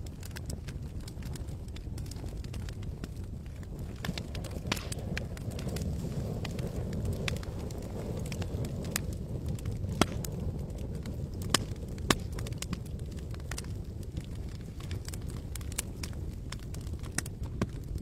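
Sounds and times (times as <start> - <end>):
campfire crackling and popping: 0.0 - 18.0
steady low rumble: 0.0 - 18.0.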